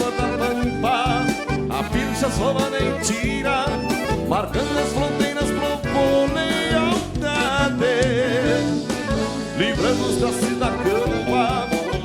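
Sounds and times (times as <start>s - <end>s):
live band with accordion: 0.0s - 12.0s.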